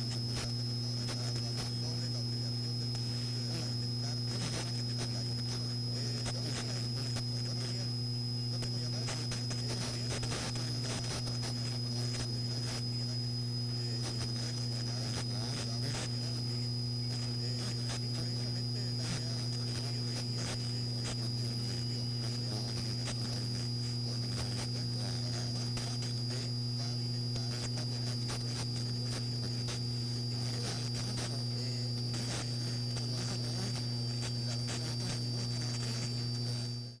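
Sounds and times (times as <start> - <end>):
radio static crackling: 0.0 - 37.0.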